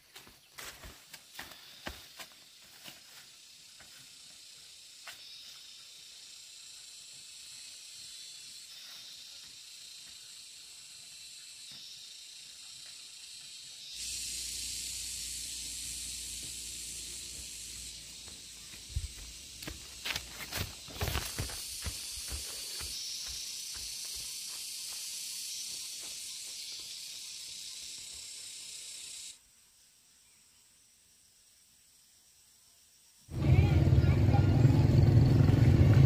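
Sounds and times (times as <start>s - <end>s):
steady high hiss: 0.8s - 33.6s.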